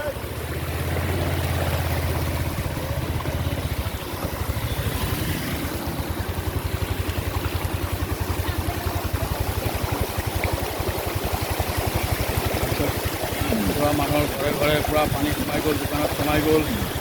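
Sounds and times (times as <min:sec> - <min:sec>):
constant rush of noise: 0:00.0 - 0:17.0
vehicle engine throbbing: 0:00.0 - 0:17.0.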